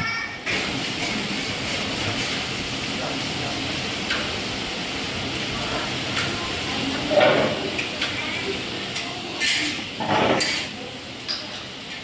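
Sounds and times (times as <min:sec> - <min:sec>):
steady hissing background noise: 0:00.0 - 0:12.0.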